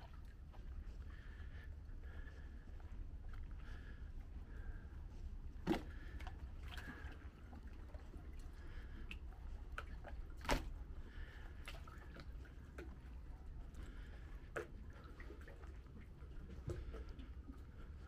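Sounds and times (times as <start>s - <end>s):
light drips and ticks: 0.0s - 18.0s
water lapping against boats: 0.0s - 18.0s.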